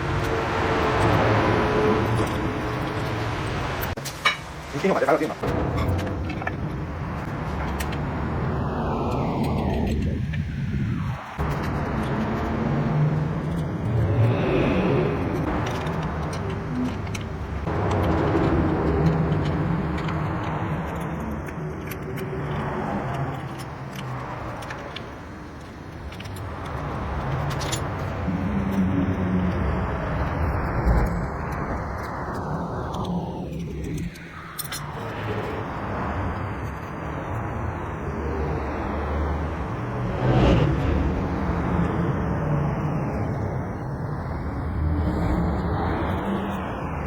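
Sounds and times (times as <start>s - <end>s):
steady machinery noise: 0.0s - 47.0s
engine running: 5.4s - 47.0s.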